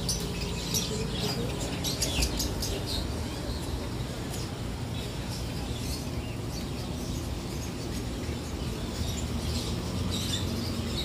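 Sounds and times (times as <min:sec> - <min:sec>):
birds chirping: 0:00.0 - 0:11.0
street noise rumble: 0:00.0 - 0:11.0.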